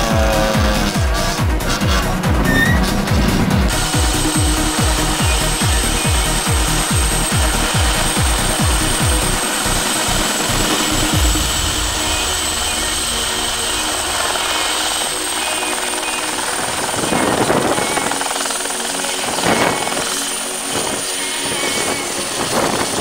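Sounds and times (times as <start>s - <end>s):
gusty surges of noise: 0.0s - 23.0s
helicopter rotor beating: 0.0s - 23.0s
helicopter turbine whine: 0.0s - 23.0s.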